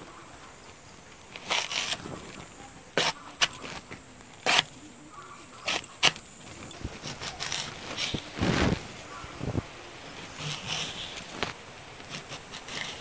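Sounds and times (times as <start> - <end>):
blade cutting through plant stem: 1.2 - 9.0, 10.3 - 13.0.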